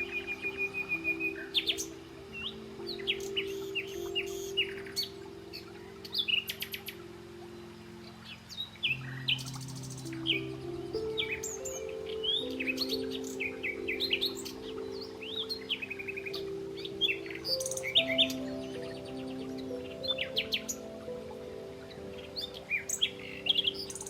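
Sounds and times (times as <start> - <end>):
soft background music chords: 0.0 - 24.0
songbirds chirping: 0.0 - 24.0.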